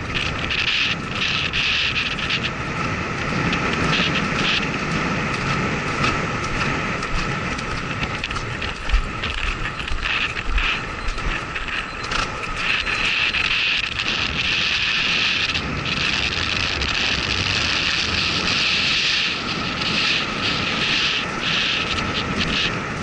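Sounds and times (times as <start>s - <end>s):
horse hooves thudding: 0.0s - 23.0s
wind rushing over microphone: 0.0s - 23.0s.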